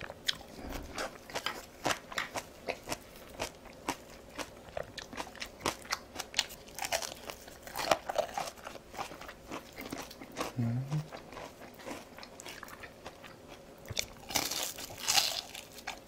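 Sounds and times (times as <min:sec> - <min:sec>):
crunching fried food: 0:00.0 - 0:16.0.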